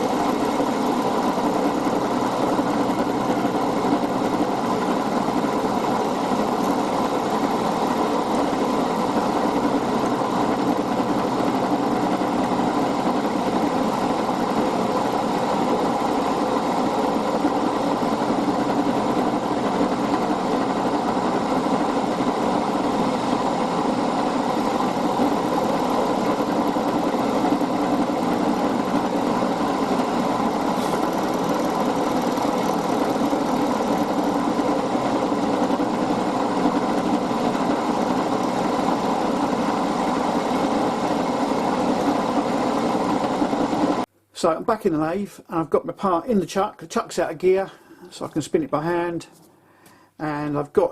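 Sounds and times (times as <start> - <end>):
machine tool motor humming: 0.0 - 44.0.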